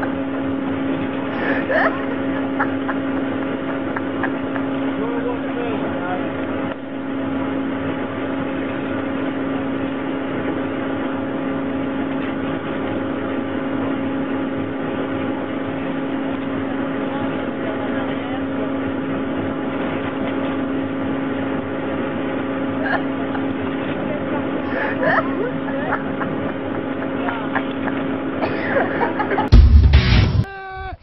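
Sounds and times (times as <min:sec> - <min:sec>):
lift machinery humming: 0:00.0 - 0:31.0.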